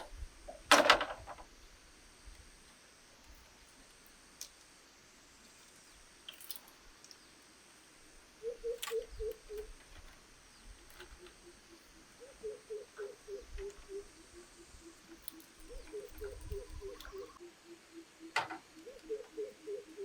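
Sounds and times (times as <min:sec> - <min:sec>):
faint hiss: 0:00.0 - 0:20.0.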